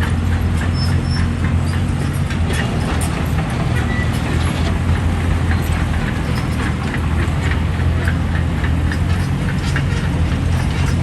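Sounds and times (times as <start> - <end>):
diesel engine droning: 0.0 - 11.0
metallic clicks and clanks: 0.0 - 11.0.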